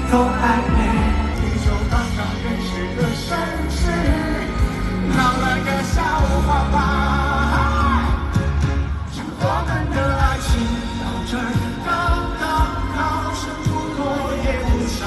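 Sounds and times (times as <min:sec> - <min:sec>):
live pop band music: 0:00.0 - 0:15.0
person singing: 0:00.0 - 0:15.0.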